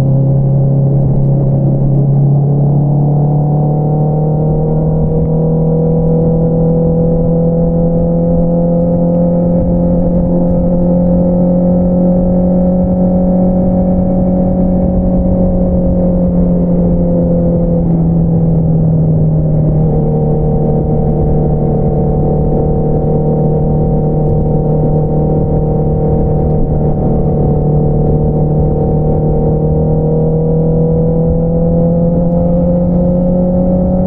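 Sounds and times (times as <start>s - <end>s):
motorcycle engine cruising: 0.0s - 34.0s.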